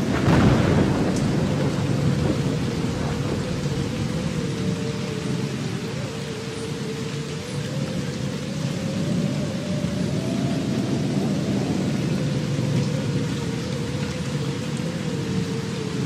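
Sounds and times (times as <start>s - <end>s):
rumbling rain-like noise: 0.0s - 16.0s.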